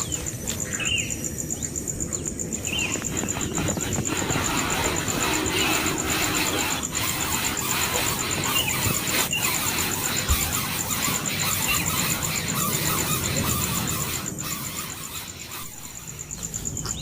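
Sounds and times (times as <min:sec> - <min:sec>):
insect rapid pulsed chirping: 0:00.0 - 0:17.0.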